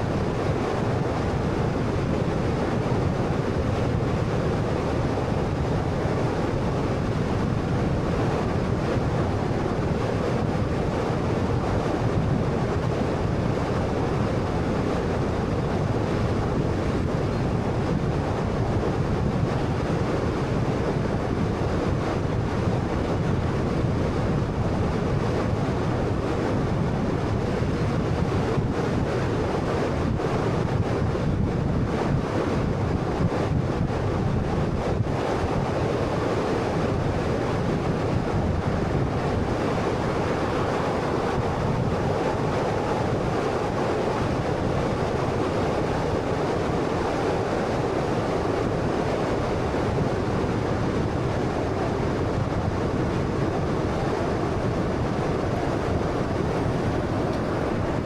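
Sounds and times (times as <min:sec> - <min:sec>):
wind from moving car: 0:00.0 - 0:58.0.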